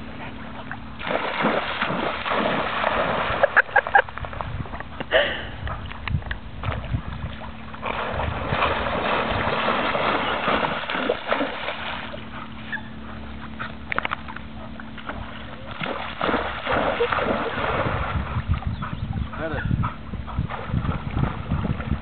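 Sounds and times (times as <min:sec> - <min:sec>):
water splashing from dog swimming: 0:00.4 - 0:04.8, 0:05.6 - 0:22.0.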